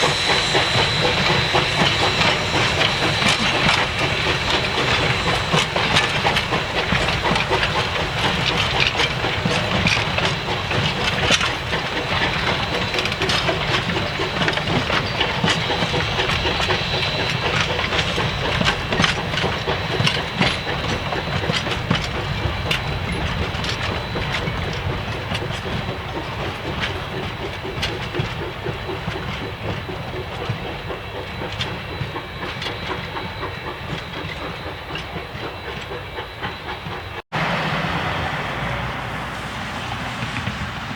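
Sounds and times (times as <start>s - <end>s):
train rumble and hiss: 0.0s - 40.9s
train wheels clicking over rail joints: 0.0s - 40.9s.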